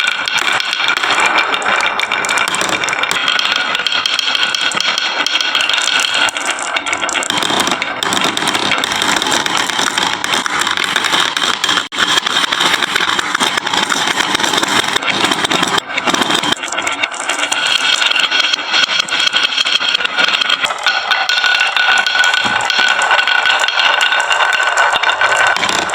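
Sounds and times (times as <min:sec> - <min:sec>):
marbles rattling down wooden run: 0:00.0 - 0:25.9.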